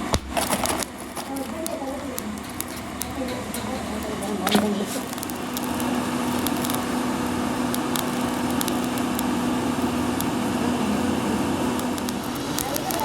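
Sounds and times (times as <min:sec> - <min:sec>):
motor humming: 0:00.0 - 0:13.0
faint ticks and crackles: 0:00.5 - 0:13.0.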